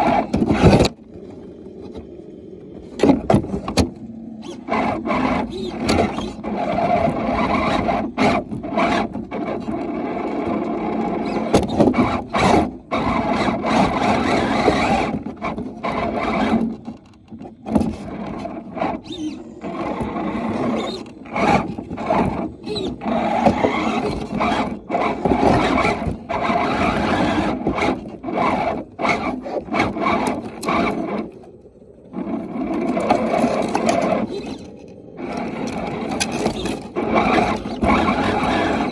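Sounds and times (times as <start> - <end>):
electric motor and gears whining: 0.0 - 38.9
twigs scraping against toy truck: 3.2 - 38.9.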